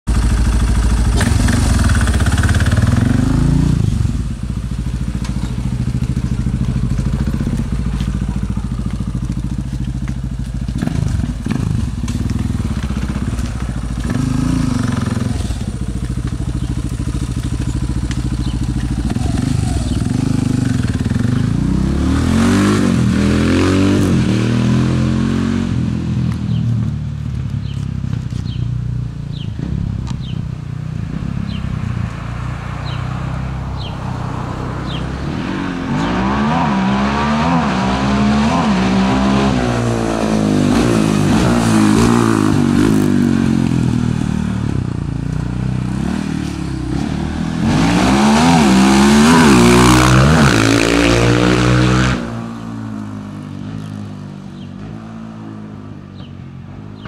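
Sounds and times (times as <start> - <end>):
quad bike engine revving: 0.1 - 26.6, 34.8 - 56.3.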